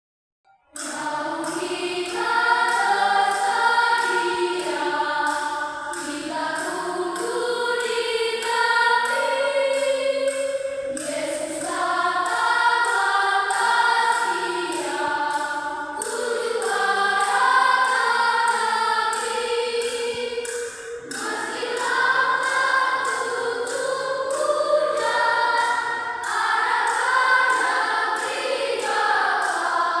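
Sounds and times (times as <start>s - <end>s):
choir singing a hymn: 0.7s - 30.0s.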